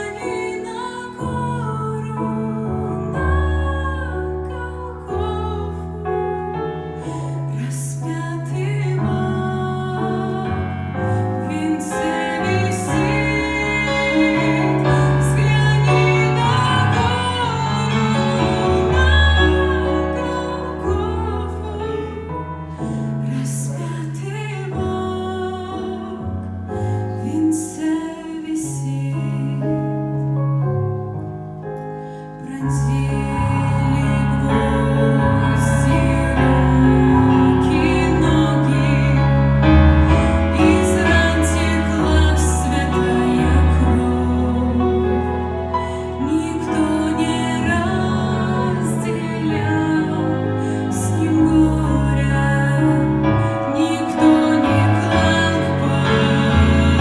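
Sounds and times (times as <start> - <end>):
woman singing church song: 0.0 - 6.2, 7.0 - 30.2, 32.4 - 57.0
keyboard accompaniment: 0.0 - 57.0.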